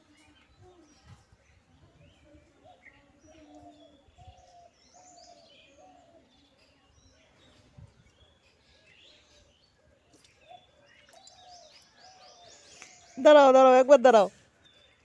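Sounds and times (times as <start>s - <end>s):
birds chirping and whistling: 0.2s - 15.0s.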